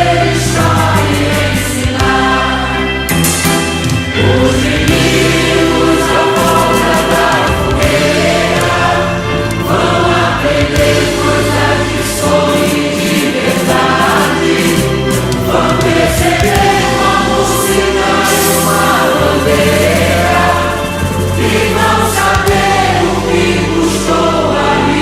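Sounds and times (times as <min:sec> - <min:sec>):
choir singing: 0:00.0 - 0:25.0
low instrumental bass notes: 0:00.0 - 0:25.0.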